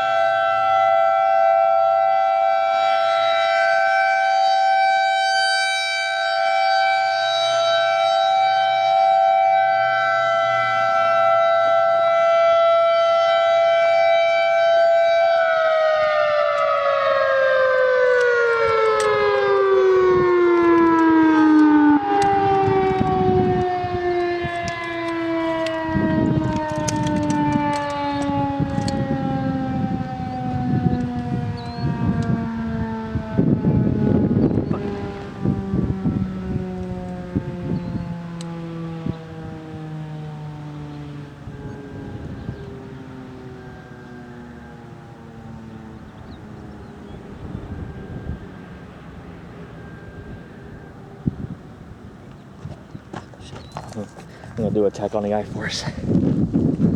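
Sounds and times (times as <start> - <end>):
warning sirens winding down: 0.0 - 56.9
wind buffeting microphone: 6.6 - 56.9.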